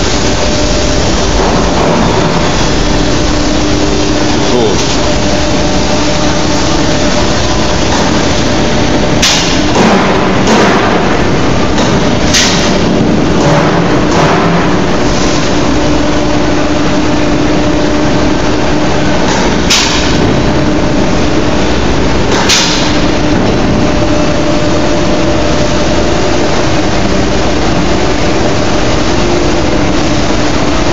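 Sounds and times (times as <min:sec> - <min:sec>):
factory machinery hum: 0:00.0 - 0:30.9.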